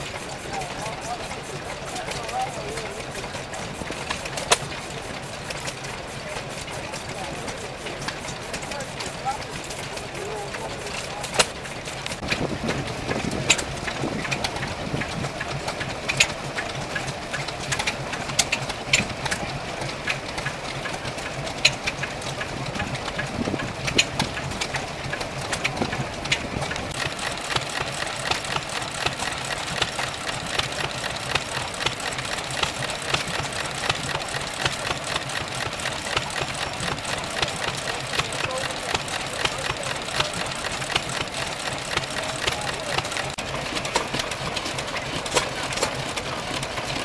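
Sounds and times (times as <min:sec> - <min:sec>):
stationary engine clattering: 0:00.0 - 0:47.0.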